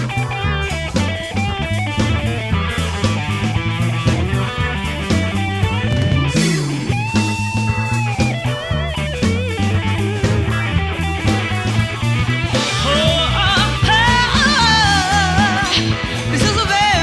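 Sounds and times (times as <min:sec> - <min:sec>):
lead guitar wavering notes: 0:00.0 - 0:17.0
live band music: 0:00.0 - 0:17.0.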